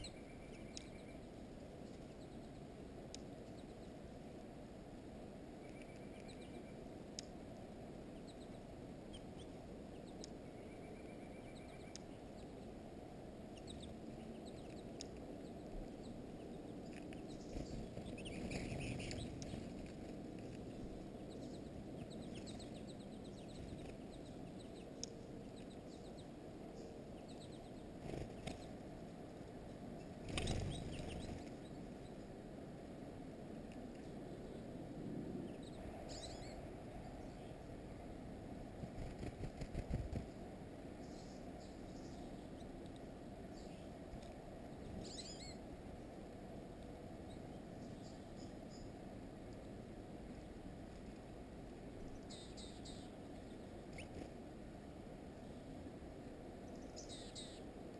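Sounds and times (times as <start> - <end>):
low background rumble: 0.0 - 57.9
songbirds chirping: 0.0 - 57.9.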